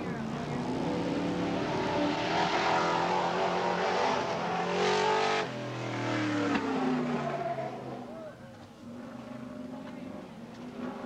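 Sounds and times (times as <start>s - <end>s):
race truck engines revving: 0.0s - 11.0s.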